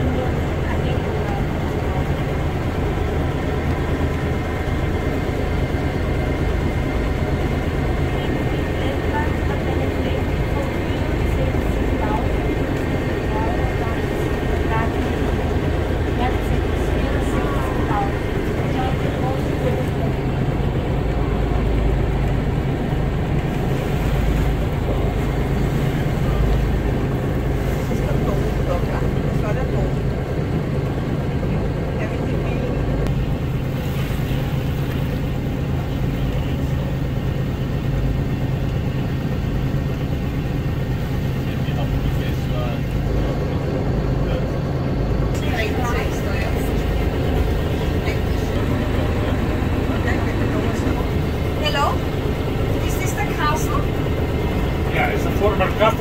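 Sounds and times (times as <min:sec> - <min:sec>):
boat engine droning: 0:00.0 - 0:56.0
wind: 0:00.0 - 0:56.0.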